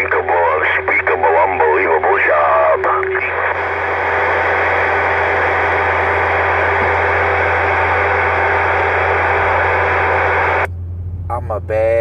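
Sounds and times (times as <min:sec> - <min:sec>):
radio static hiss: 0:00.0 - 0:10.7
faint steady tones: 0:00.0 - 0:12.0
low hum: 0:00.0 - 0:12.0.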